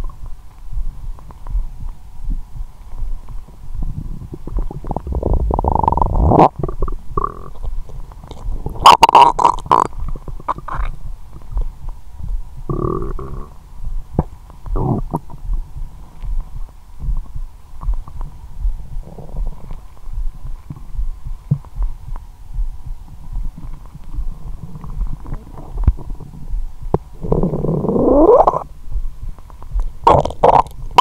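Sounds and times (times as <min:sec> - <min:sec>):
low throbbing pulse: 0:00.0 - 0:31.0
stomach gurgles and pops: 0:00.0 - 0:31.0.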